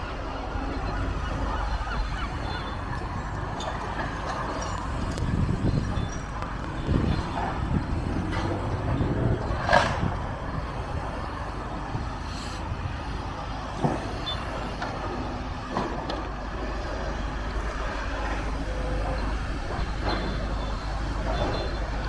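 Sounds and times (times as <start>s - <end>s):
heavy machinery engine rumble: 0.0s - 22.0s
traffic: 0.0s - 22.0s.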